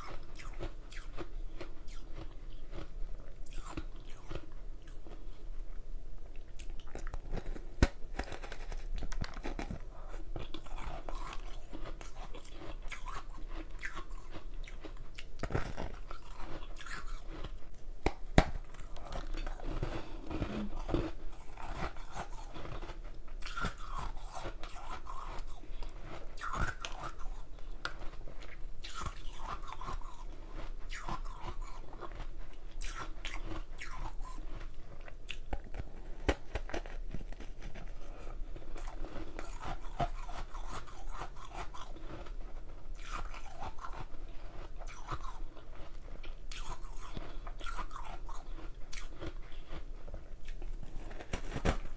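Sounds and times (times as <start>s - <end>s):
person chewing ice: 0.0s - 51.9s.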